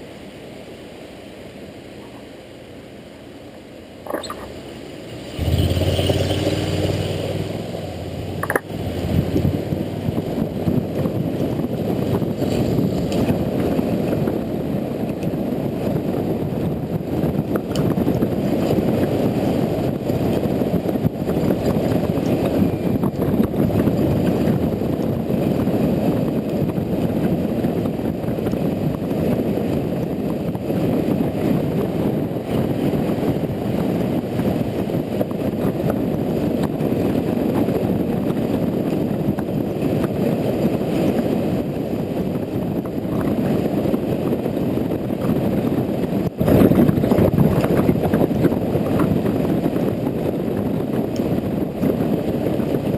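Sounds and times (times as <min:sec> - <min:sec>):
motorcycle engine and tyres: 0:04.0 - 0:52.9
wind rushing on microphone: 0:04.0 - 0:52.9.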